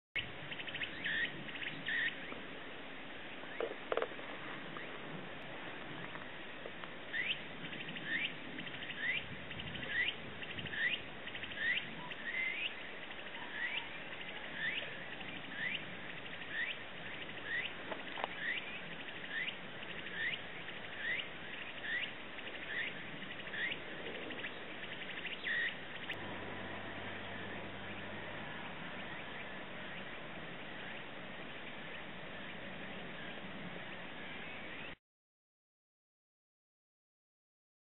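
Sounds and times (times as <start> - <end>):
outdoor background hiss: 0.2 - 35.0.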